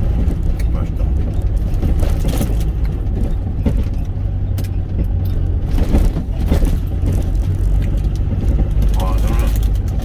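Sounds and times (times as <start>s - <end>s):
truck engine and road noise: 0.0s - 10.0s.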